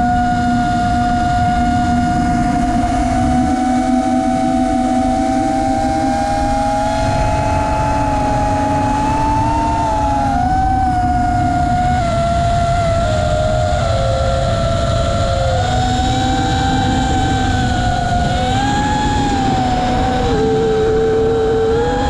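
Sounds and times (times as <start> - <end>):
drone electric motors whining: 0.0 - 22.0.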